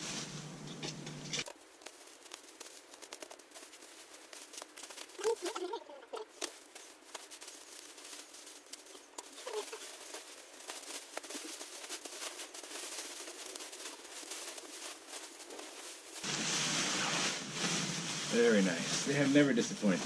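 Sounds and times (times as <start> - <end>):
plastic wrap crinkling: 1.4 - 20.0.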